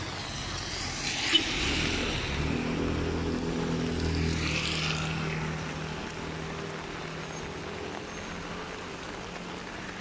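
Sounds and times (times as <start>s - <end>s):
heavy rain on an umbrella: 0.0s - 10.0s
tyres hissing on wet road: 0.0s - 10.0s.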